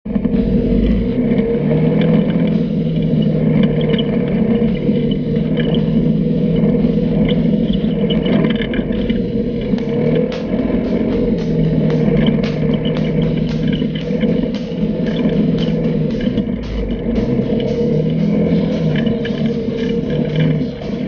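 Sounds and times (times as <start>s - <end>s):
single-cylinder engine running: 0.1s - 21.0s.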